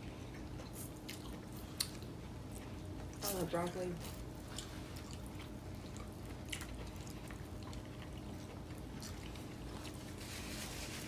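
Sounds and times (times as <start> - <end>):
room hum: 0.0 - 11.0
soft chewing: 0.0 - 11.0.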